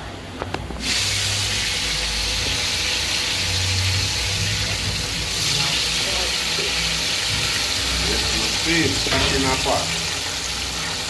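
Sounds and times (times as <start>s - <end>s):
oil sizzling in a pot: 0.8s - 11.0s.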